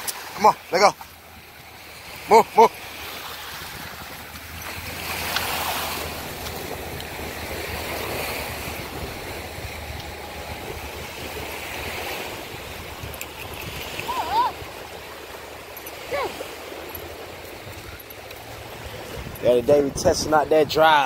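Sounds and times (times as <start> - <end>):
ocean surf washing ashore: 0.0 - 21.0.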